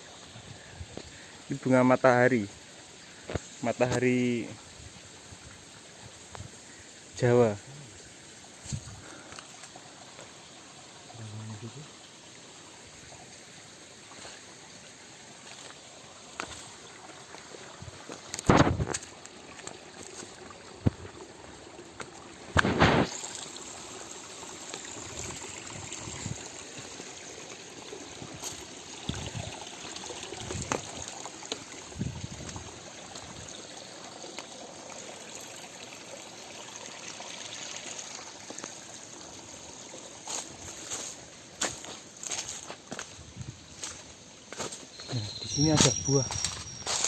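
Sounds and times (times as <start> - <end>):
stream water trickling: 0.0 - 47.0.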